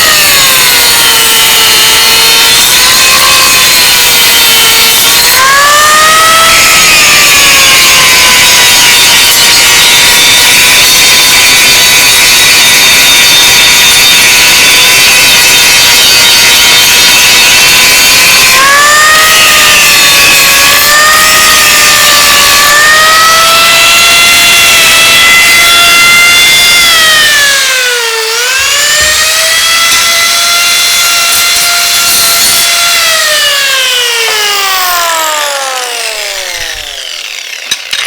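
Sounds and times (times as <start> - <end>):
angle grinder grinding: 0.0 - 38.0.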